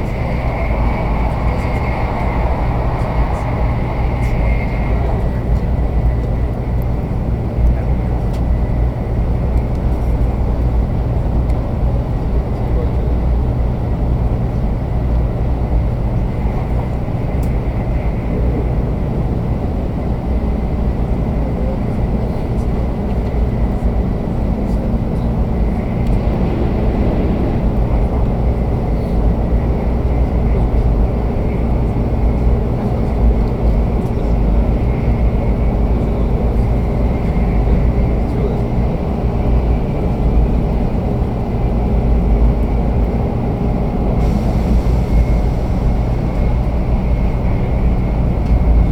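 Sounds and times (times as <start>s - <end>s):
low rumble of train wheels: 0.0s - 48.9s.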